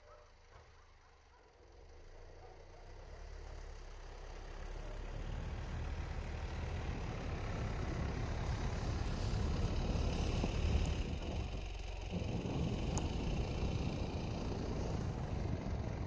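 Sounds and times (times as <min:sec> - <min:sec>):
diesel suv engine running: 0:00.0 - 0:16.0.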